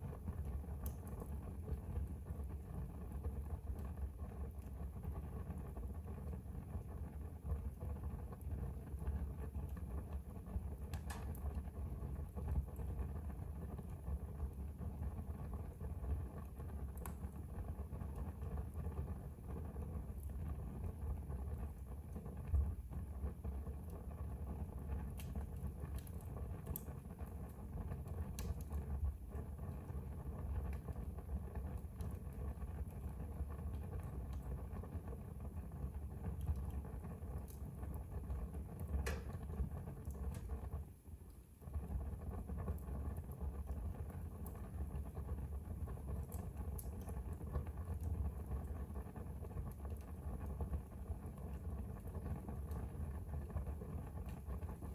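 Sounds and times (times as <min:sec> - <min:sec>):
fire crackling and popping: 0:00.0 - 0:54.9
fire flames rumbling: 0:00.0 - 0:54.9.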